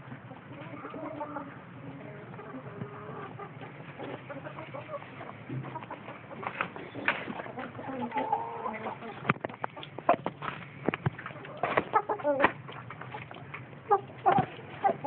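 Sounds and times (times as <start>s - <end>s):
chickens clucking softly: 0.0s - 15.0s.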